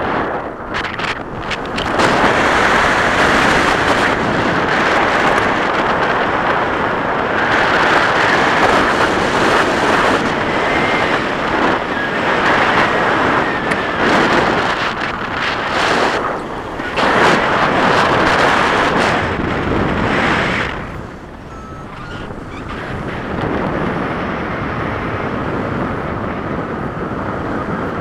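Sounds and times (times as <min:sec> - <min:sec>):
wind noise on microphone: 0:00.0 - 0:28.0.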